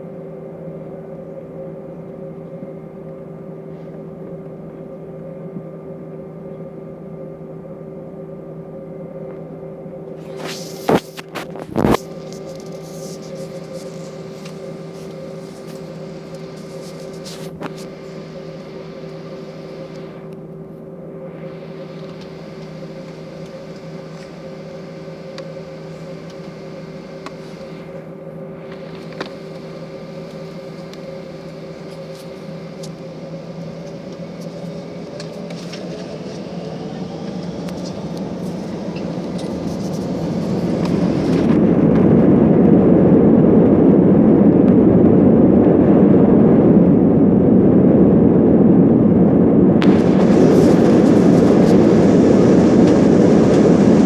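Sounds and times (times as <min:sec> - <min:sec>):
jet engines spooling up: 0:00.1 - 0:54.0.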